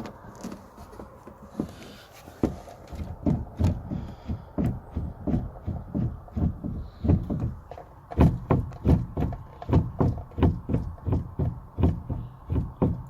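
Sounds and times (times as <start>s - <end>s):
dull thumps and knocks: 0.0s - 13.0s.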